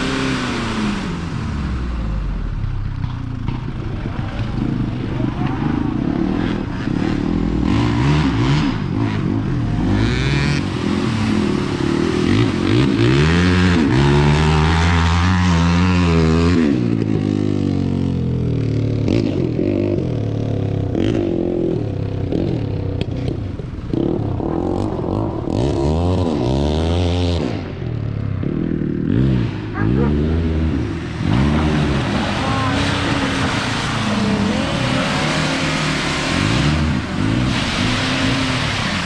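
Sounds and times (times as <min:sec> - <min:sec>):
diesel engine revving: 0:00.0 - 0:39.0.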